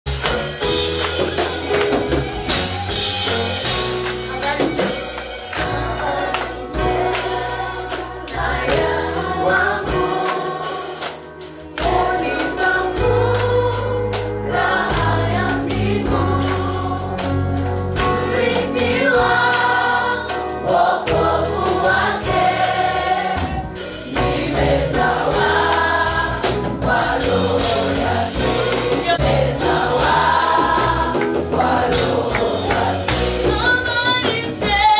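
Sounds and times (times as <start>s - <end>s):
bass guitar: 0.0s - 34.9s
steady percussion beat: 0.1s - 34.9s
choir singing gospel song: 0.2s - 34.9s.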